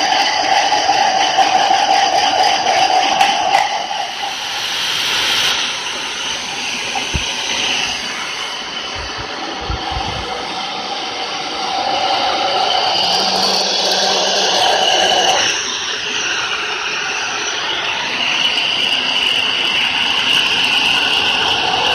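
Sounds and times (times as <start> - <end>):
electric fan whirring: 0.0 - 21.9.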